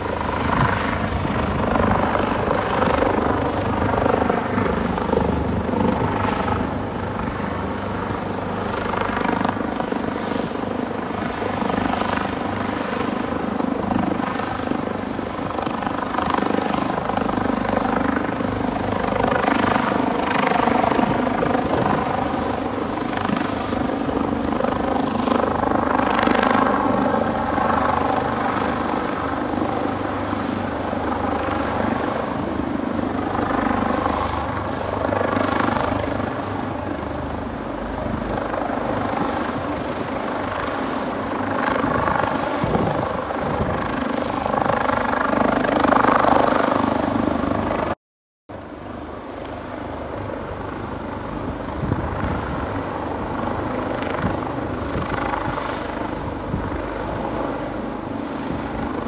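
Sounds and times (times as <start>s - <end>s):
helicopter rotor and turbine: 0.0s - 59.0s.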